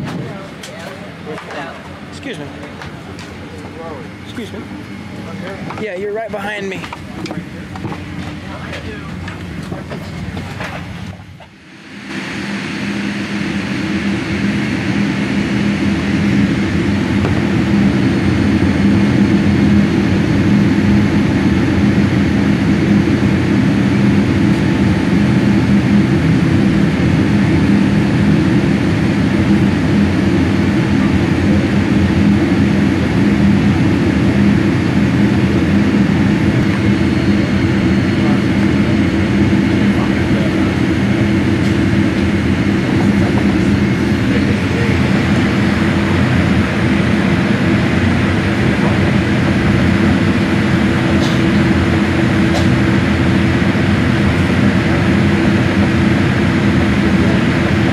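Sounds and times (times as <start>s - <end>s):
low engine hum: 0.0s - 57.9s.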